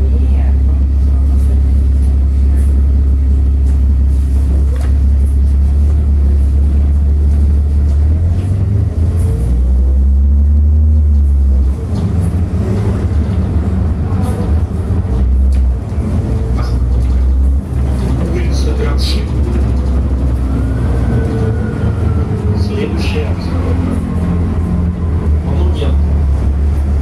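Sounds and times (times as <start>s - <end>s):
bus engine and road drone: 0.0s - 27.0s.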